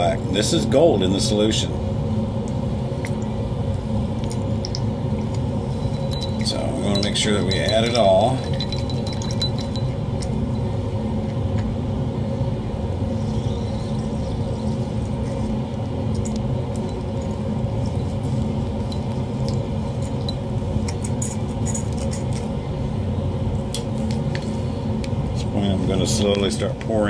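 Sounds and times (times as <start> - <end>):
fume hood fan drone: 0.0 - 27.0.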